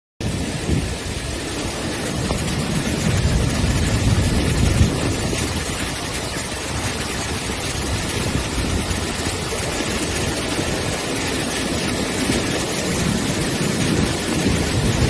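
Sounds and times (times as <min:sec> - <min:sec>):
floodwater rushing: 0:00.2 - 0:15.0
low unsteady rumble: 0:00.2 - 0:15.0.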